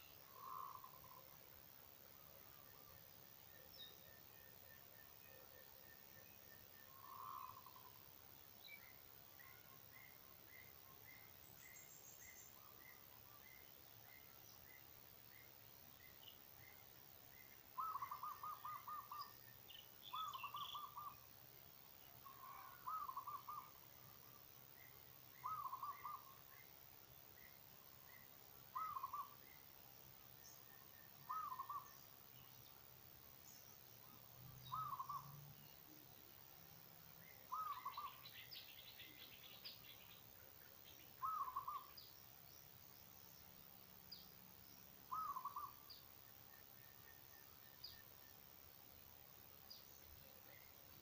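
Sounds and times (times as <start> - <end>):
other birds chirping faintly: 0.0 - 51.0.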